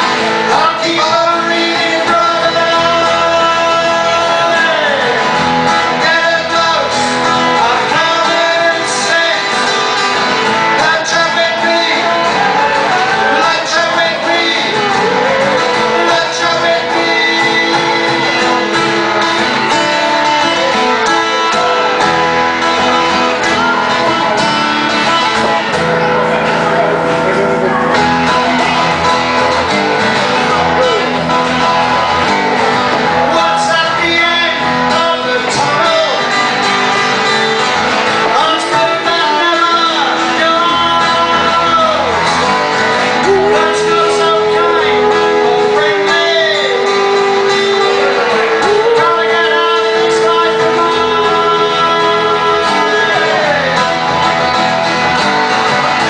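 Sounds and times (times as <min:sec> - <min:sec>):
person singing: 0:00.0 - 0:22.2, 0:27.2 - 0:56.0
strummed guitar: 0:00.0 - 0:56.0.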